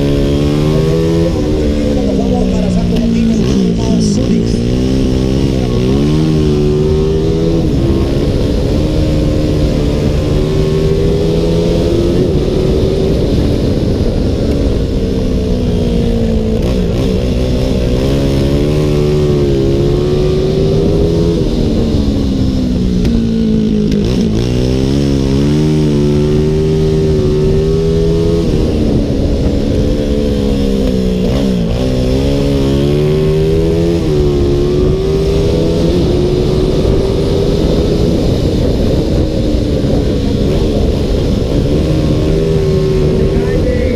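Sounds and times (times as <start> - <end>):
motorcycle engine at race pace: 0.0 - 43.9.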